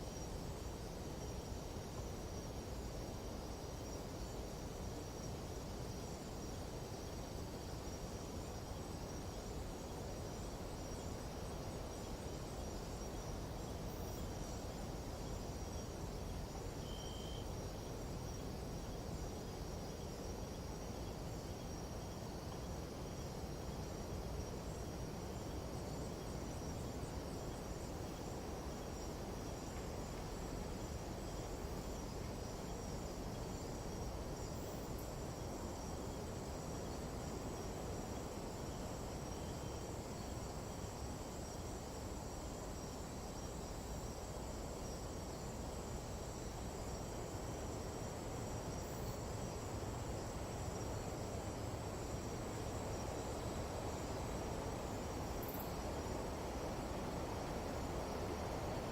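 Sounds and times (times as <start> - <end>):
insect chorus trilling: 0.0 - 58.9.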